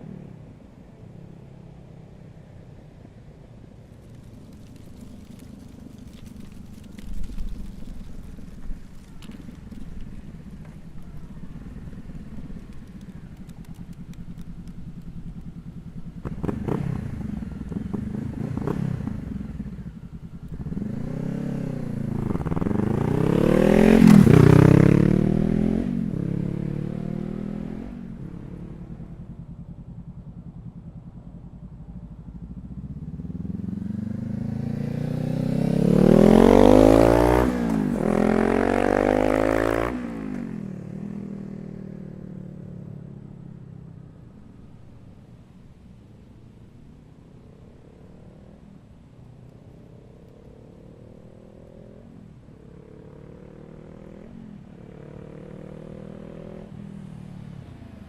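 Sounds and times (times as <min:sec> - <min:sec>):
motorcycle engine accelerating past: 0:03.9 - 0:58.0.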